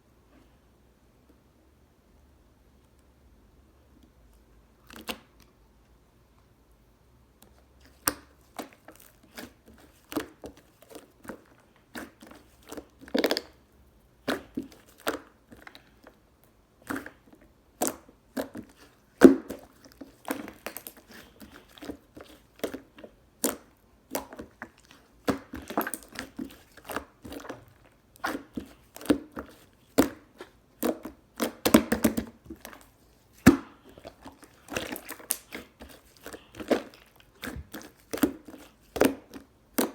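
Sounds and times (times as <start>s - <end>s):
slime squelching: 7.5s - 39.9s.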